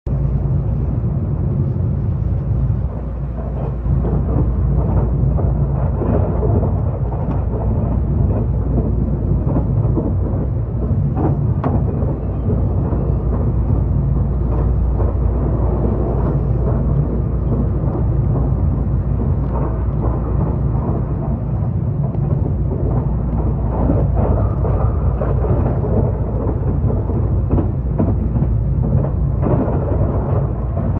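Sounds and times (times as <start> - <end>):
train wheels rumbling on rail: 0.1 - 30.9.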